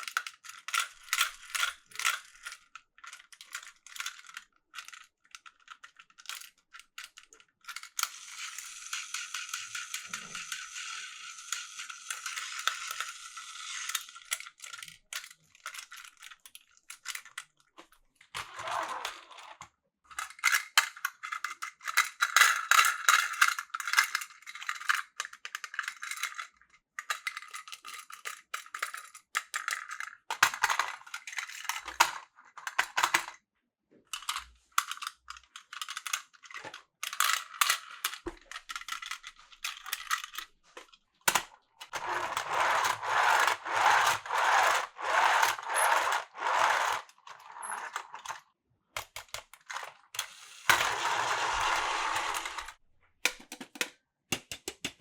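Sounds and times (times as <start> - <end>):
toy trains clicking and rattling: 0.0 - 17.6, 18.4 - 33.4, 34.1 - 53.8.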